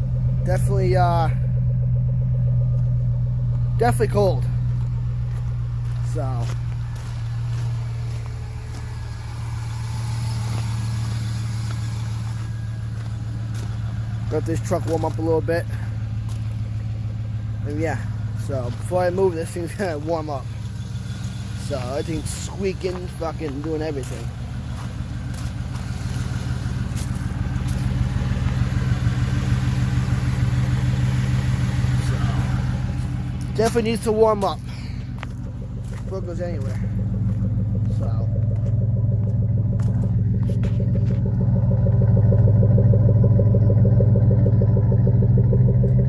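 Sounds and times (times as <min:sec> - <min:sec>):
pickup engine idling: 0:00.0 - 0:46.0.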